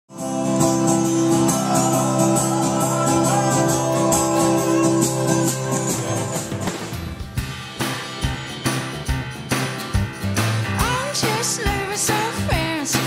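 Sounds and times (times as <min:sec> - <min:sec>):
strummed guitar chords: 0:00.1 - 0:12.9.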